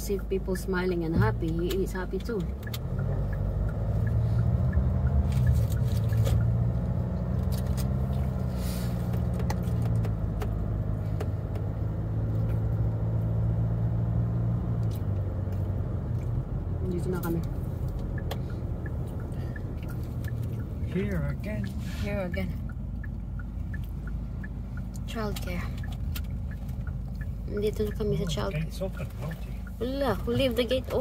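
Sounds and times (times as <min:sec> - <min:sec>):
car engine drone inside cabin: 0:00.0 - 0:31.0
road noise: 0:00.0 - 0:31.0.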